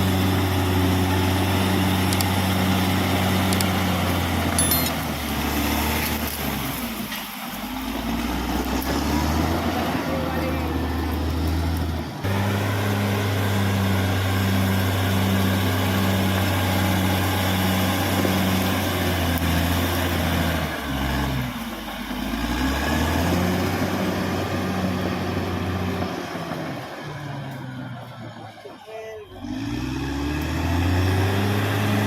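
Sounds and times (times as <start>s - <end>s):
bulldozer diesel engine under load: 0.0s - 32.0s.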